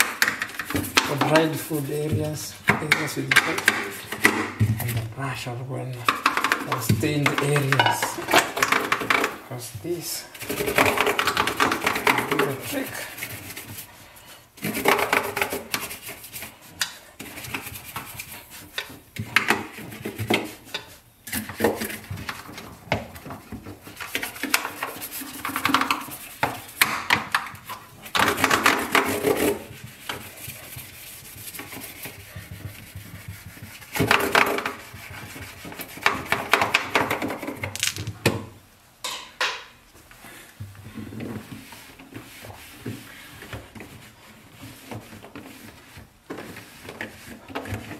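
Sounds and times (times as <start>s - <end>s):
stiff brush scrubbing plastic: 0.0s - 38.0s, 40.9s - 47.9s.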